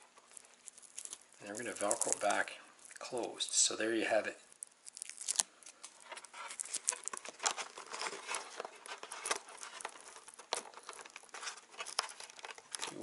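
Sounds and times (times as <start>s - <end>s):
fabric and foam rustling: 0.0s - 3.2s, 5.8s - 13.0s.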